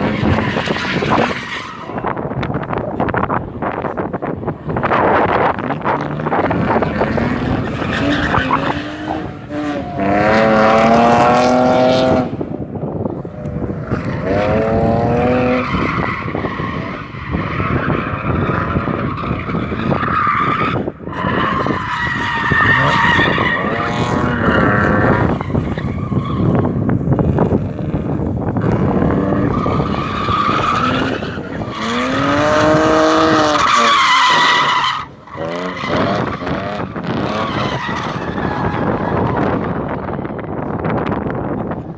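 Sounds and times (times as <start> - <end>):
car engines revving hard: 0.0 - 41.9.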